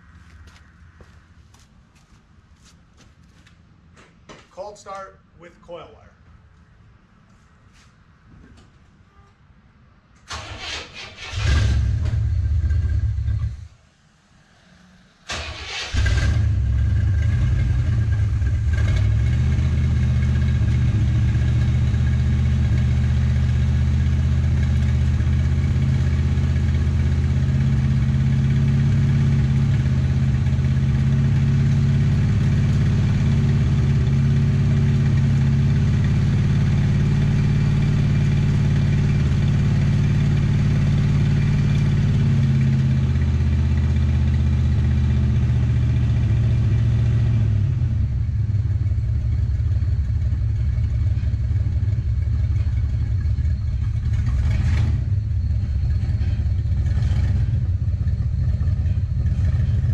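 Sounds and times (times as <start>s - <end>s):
car engine idling: 11.3s - 59.9s.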